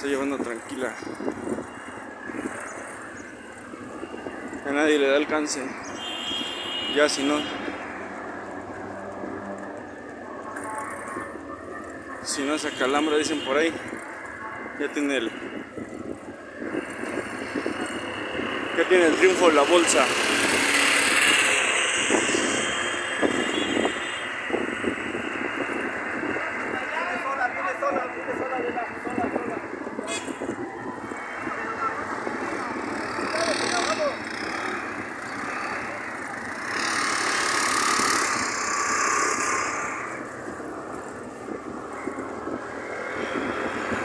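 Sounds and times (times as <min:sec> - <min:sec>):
wind noise: 0:00.0 - 0:12.2, 0:13.3 - 0:44.0
vehicle engine: 0:00.0 - 0:44.0.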